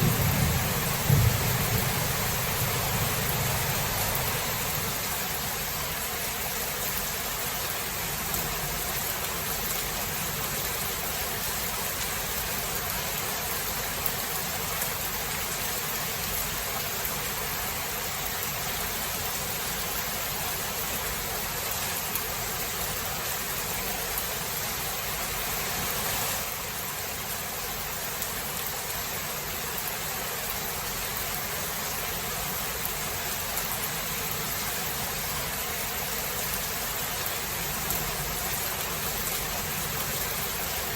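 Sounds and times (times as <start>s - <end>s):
heavy rain hissing: 0.0s - 16.6s, 17.3s - 40.9s.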